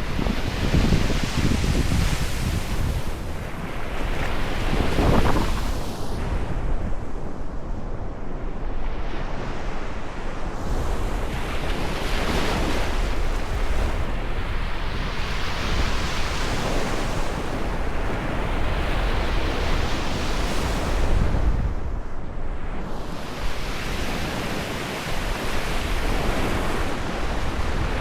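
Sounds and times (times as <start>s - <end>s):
ocean waves breaking: 0.0s - 22.0s, 22.9s - 28.0s.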